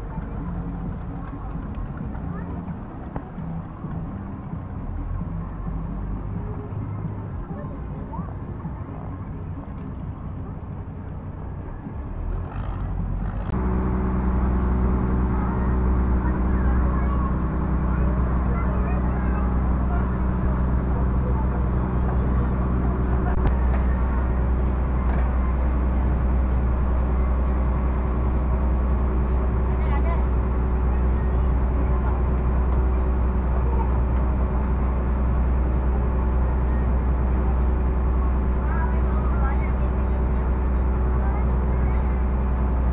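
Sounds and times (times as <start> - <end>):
motorboat engine rumbling: 0.0 - 42.9.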